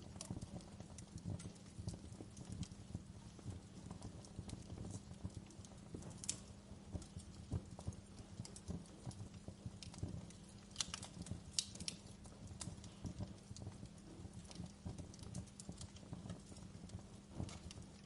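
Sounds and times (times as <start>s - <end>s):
burning logs popping: 0.0s - 18.0s
low rumble of flames: 0.0s - 18.0s.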